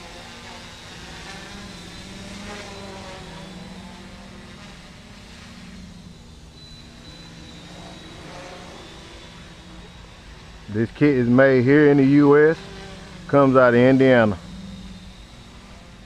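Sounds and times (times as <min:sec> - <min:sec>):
drone motors buzzing: 0:00.0 - 0:16.0.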